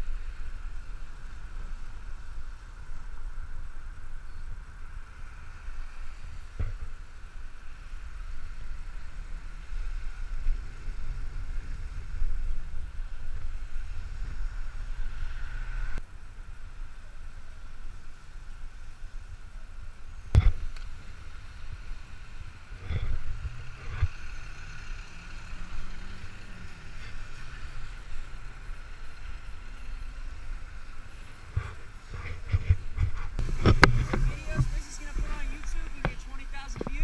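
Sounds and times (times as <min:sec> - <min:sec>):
bicycle tyres hissing on wet asphalt: 0:00.0 - 0:37.0
wind rushing over microphone: 0:00.0 - 0:37.0.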